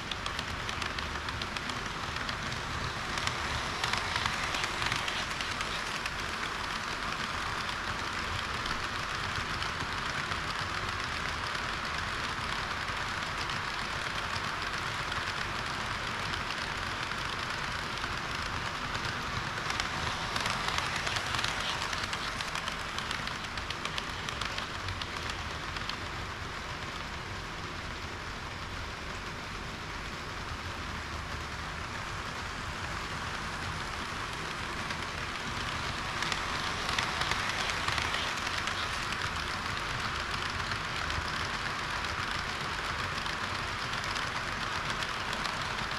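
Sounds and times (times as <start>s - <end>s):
model train wheels rattling: 0.0s - 45.9s.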